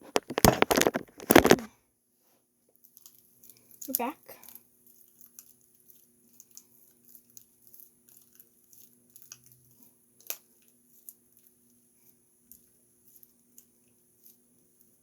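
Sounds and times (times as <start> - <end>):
slime squishing and crackling: 0.0 - 1.7, 2.8 - 15.0.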